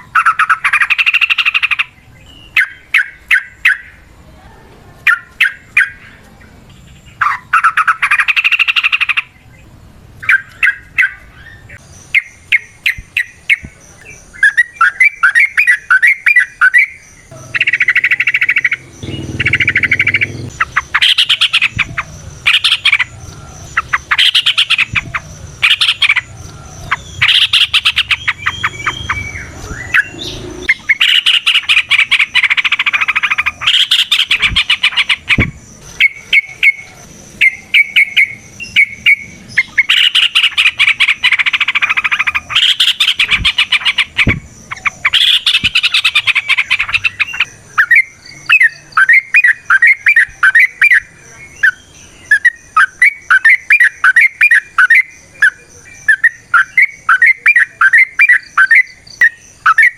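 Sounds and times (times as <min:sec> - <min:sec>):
bulbul singing: 0:00.0 - 0:04.2, 0:05.0 - 0:59.9.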